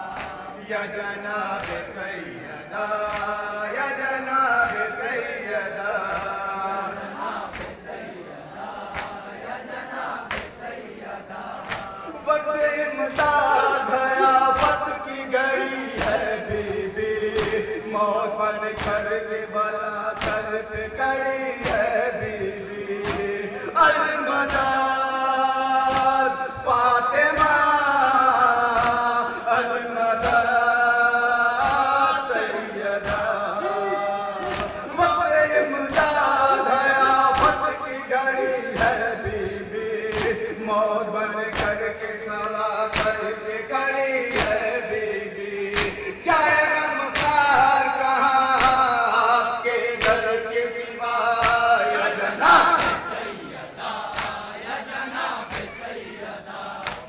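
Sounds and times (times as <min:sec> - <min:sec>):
men chanting a lament: 0:00.0 - 0:57.0
rhythmic chest-beating: 0:00.0 - 0:57.0.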